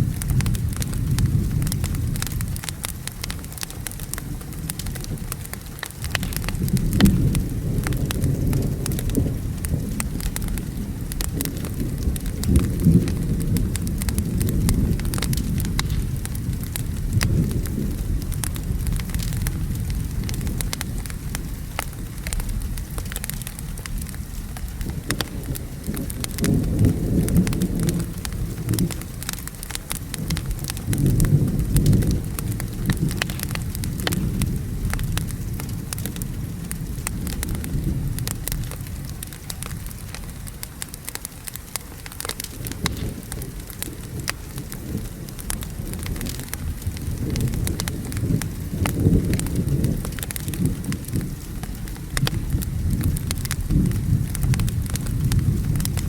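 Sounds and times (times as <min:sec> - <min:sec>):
low rolling thunder: 0:00.0 - 0:56.0
steady rain: 0:00.0 - 0:56.0
wood fire crackling and popping: 0:00.0 - 0:56.0.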